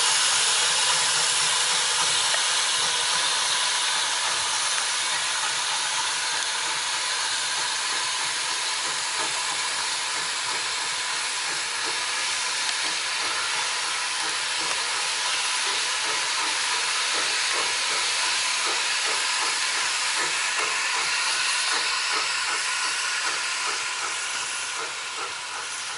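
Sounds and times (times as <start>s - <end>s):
steam locomotive hissing: 0.0s - 25.9s.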